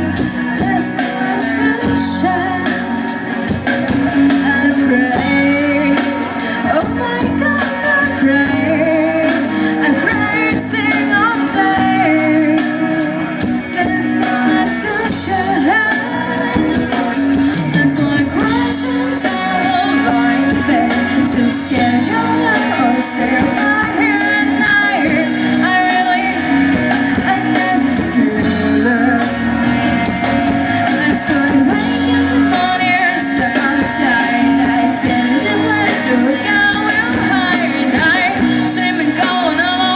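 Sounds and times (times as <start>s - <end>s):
live band playing: 0.0s - 39.9s
person singing lead vocal: 0.0s - 39.9s.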